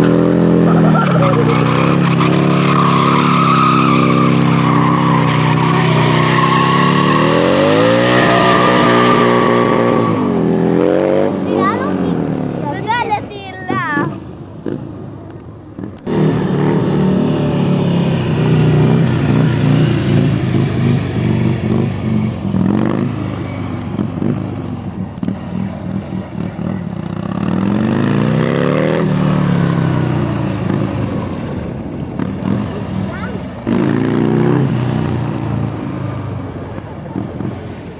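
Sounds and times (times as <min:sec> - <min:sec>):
motorcycle engine revving: 0:00.0 - 0:12.6, 0:15.7 - 0:37.9.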